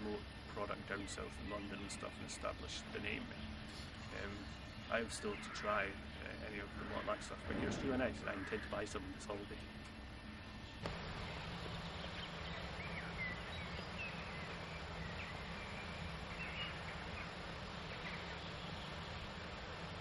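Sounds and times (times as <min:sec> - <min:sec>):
background hiss: 0:00.0 - 0:20.0
birds chirping: 0:00.0 - 0:20.0
steady low hum: 0:00.0 - 0:20.0.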